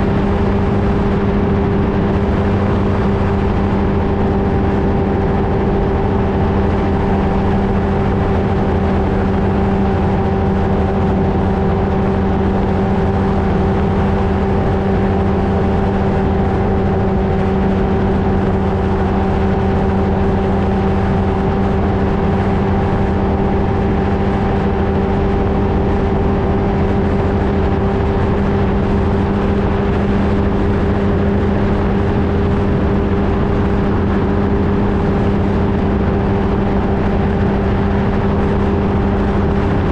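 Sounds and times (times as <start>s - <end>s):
ultralight engine and propeller: 0.0s - 39.9s.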